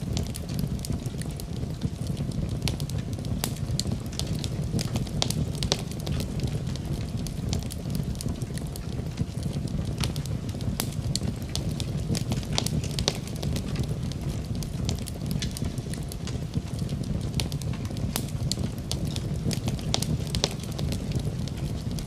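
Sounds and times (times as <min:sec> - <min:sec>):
fire crackles and pops: 0:00.0 - 0:22.0
low rumble of flames: 0:00.0 - 0:22.0.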